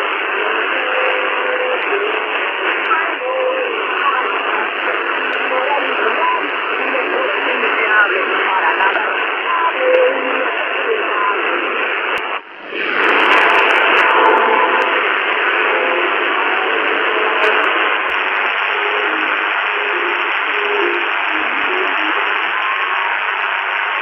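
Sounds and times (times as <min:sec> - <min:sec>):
faint distorted radio music: 0:00.0 - 0:24.0
radio static hiss: 0:00.0 - 0:24.0.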